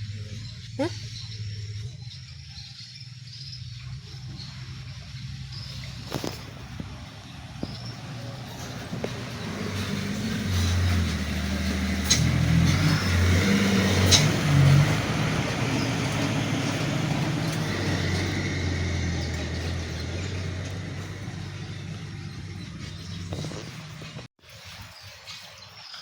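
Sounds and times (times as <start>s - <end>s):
passing vehicle engine: 3.2s - 24.3s.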